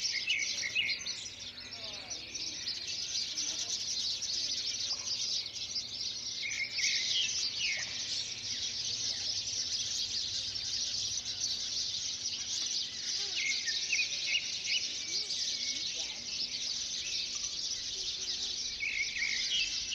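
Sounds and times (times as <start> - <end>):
birds chirping chorus: 0.0 - 19.9.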